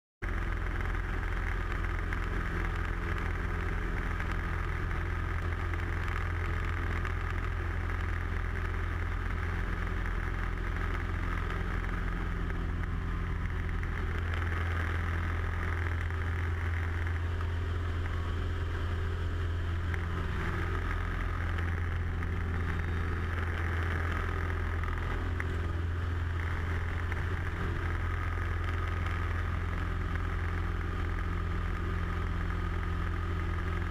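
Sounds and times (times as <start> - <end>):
propeller aircraft engine drone: 0.2 - 33.9.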